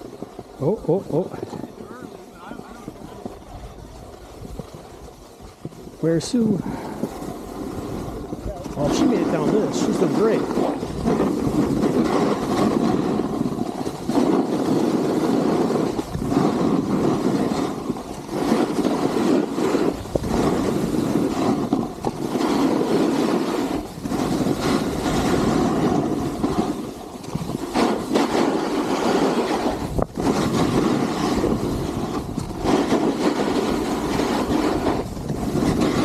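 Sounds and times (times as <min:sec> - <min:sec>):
skis carving on snow: 0:00.0 - 0:36.0
wind on microphone: 0:00.0 - 0:36.0.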